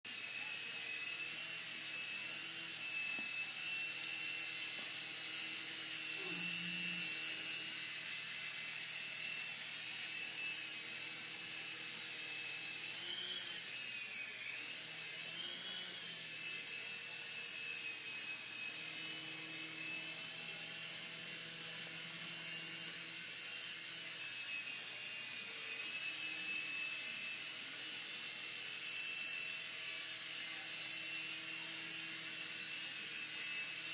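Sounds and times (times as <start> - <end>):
toy helicopter motor whining: 0.1 - 33.9.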